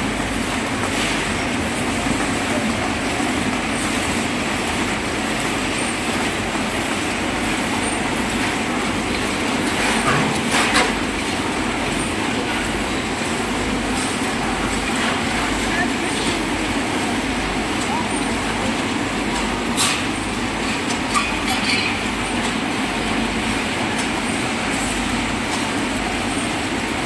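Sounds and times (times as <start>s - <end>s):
factory machinery running: 0.0s - 27.0s
machinery clatter: 0.0s - 27.0s.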